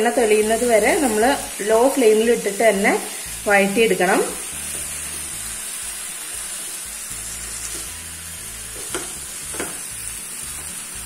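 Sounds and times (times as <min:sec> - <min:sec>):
masala sizzling in a pan: 0:00.0 - 0:11.0.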